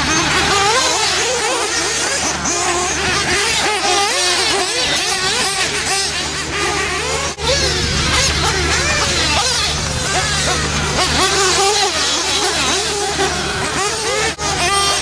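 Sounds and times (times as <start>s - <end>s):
small engines whining: 0.0s - 15.0s
steady low hum: 0.0s - 15.0s.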